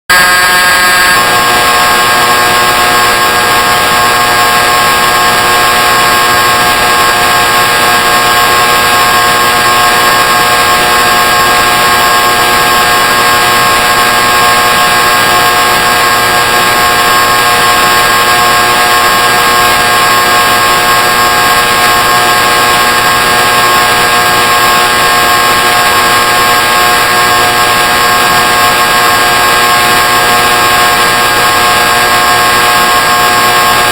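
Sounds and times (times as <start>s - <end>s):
electric buzzing tone: 0.1s - 33.9s.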